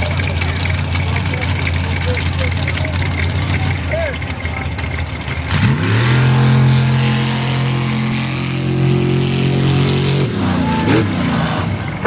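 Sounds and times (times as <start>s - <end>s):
racing engine at full throttle: 0.0s - 12.0s.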